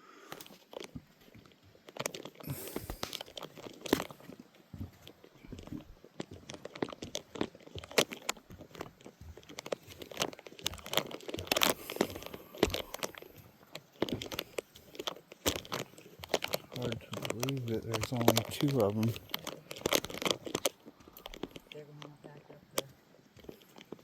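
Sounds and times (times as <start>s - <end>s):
crunching crackling rustles: 0.1s - 24.0s.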